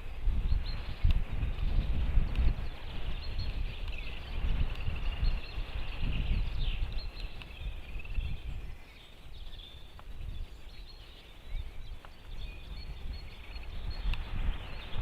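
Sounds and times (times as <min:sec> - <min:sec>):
faint bird chirping: 0:00.0 - 0:15.0
wind buffeting microphone: 0:00.0 - 0:15.0.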